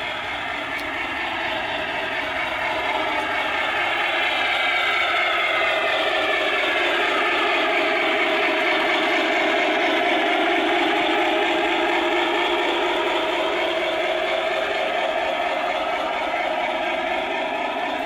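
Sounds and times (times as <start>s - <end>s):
model train whirring: 0.0s - 18.0s.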